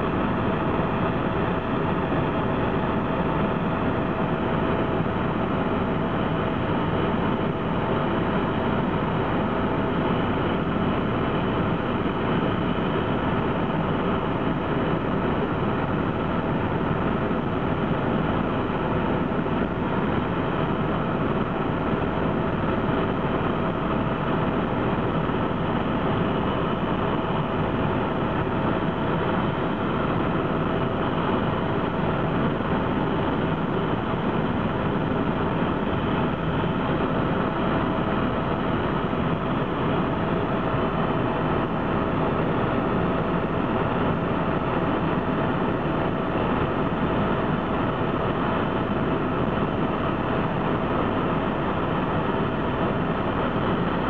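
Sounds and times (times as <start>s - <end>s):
constant whine: 0.0s - 54.0s
helicopter engine and rotor drone: 0.0s - 54.0s.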